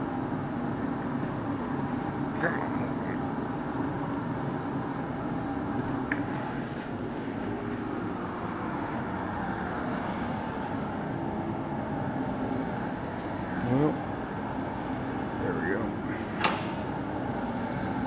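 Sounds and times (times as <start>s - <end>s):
mechanical drone with low hum: 0.0s - 18.0s.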